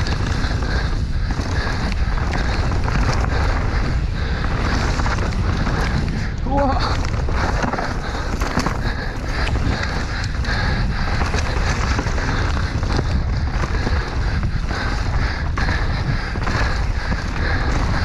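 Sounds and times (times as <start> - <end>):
bike knocks and rattles: 0.0 - 18.0
tyres on dirt: 0.0 - 18.0
wind on microphone: 0.0 - 18.0.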